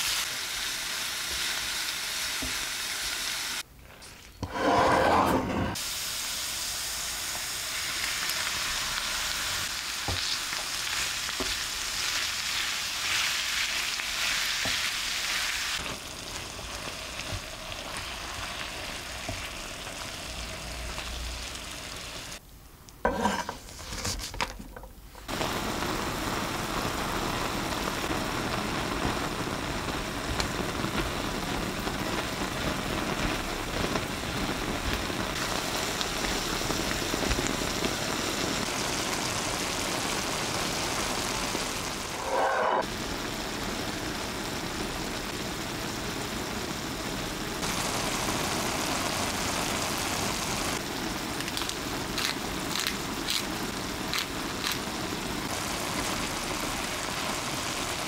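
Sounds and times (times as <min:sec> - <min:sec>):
meat and onions sizzling: 0:00.0 - 0:03.7, 0:05.8 - 0:22.4, 0:25.2 - 0:58.0.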